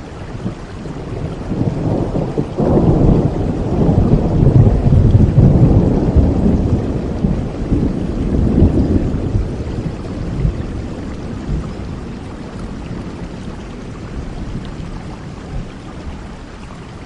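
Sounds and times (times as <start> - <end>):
steady rain: 0.0 - 17.0
rolling thunder: 0.4 - 16.4.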